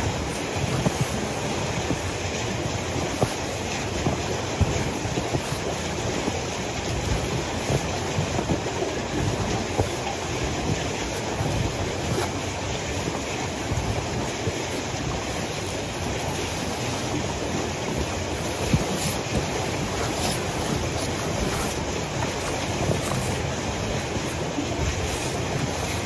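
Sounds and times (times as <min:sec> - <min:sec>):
snow sliding off car roof: 0:00.0 - 0:26.0
steady rushing noise: 0:00.0 - 0:26.0.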